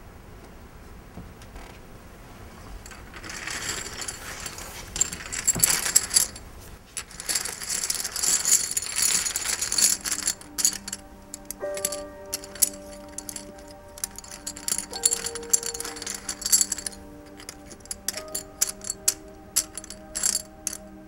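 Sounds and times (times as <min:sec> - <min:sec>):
poker chips clattering: 0:02.9 - 0:21.0.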